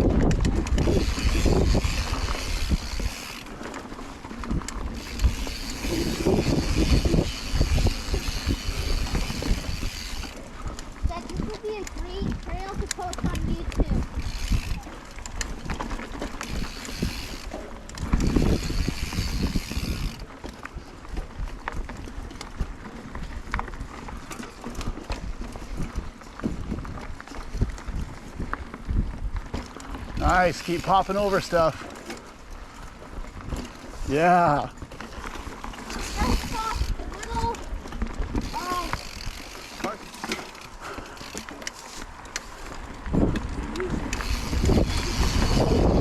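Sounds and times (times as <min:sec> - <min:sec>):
bike knocks and rattles: 0:00.0 - 0:46.0
bike tyre noise: 0:00.0 - 0:46.0
wind buffeting microphone: 0:00.0 - 0:46.0.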